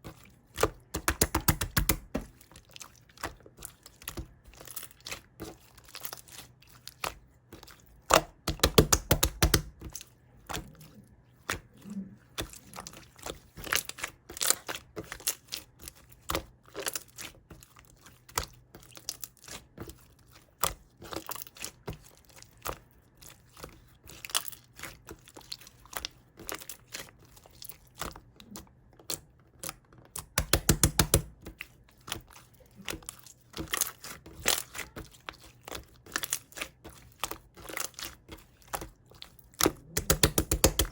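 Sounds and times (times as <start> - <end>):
chewing honeycomb: 2.3 - 8.4, 9.8 - 30.4, 31.5 - 40.3.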